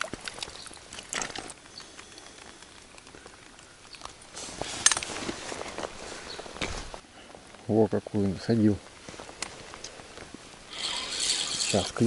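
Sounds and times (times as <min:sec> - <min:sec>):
faint rain patter: 0:00.0 - 0:12.0.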